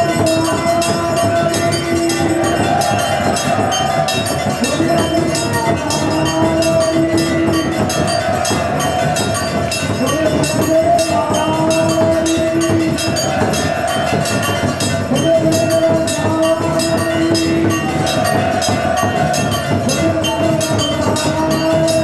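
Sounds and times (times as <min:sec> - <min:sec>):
metal percussion ringing: 0:00.0 - 0:22.0.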